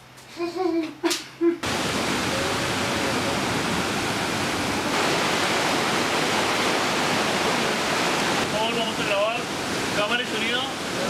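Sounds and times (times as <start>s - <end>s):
river rushing over rocks: 1.6s - 11.0s.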